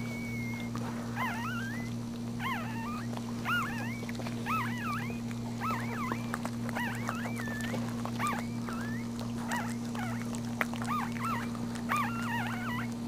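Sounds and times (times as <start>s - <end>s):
puppy crying squeaks: 0.0s - 13.0s.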